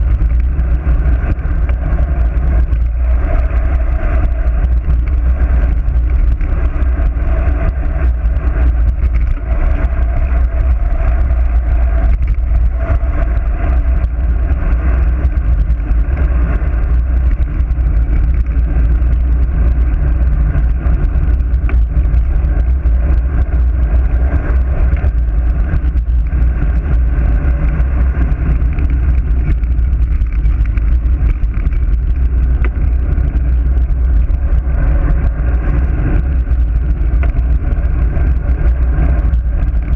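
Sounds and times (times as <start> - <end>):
bike tyres on asphalt: 0.0 - 39.9
wind rushing over microphone: 0.0 - 39.9.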